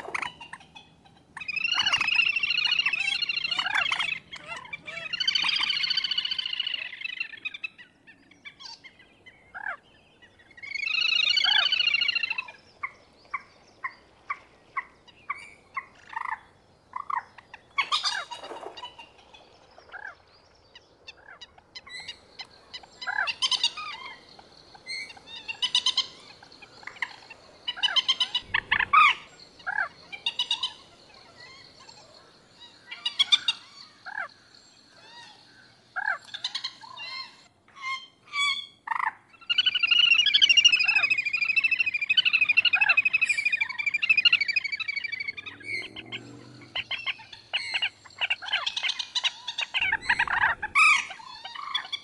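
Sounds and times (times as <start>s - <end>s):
moorhen calling: 0.0s - 34.3s, 35.0s - 52.0s.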